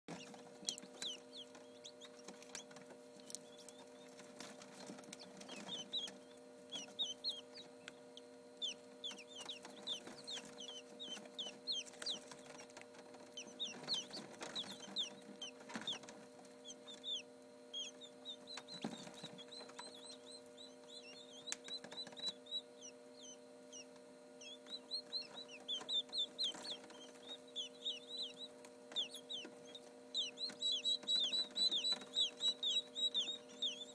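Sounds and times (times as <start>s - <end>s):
chicks peeping: 0.1s - 33.9s
incubator low hum: 0.1s - 33.9s.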